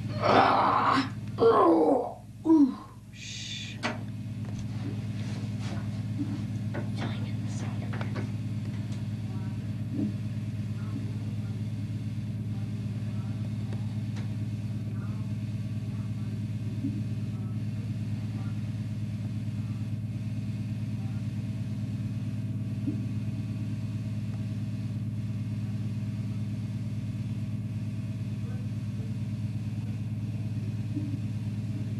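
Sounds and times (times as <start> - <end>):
tractor engine idling: 0.0 - 0.3, 2.2 - 31.9.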